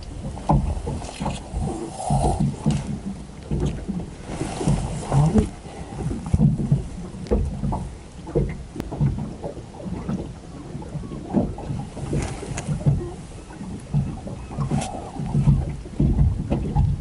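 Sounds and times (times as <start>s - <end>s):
small waves slapping a boat hull: 0.0s - 17.0s.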